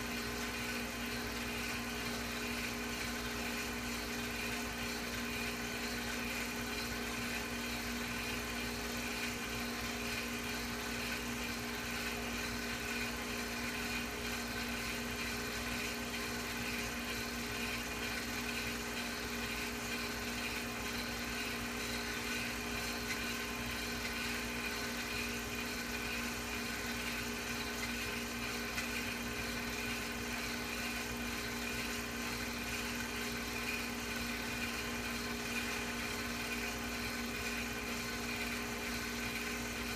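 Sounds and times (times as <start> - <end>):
film projector motor whir: 0.0 - 39.9.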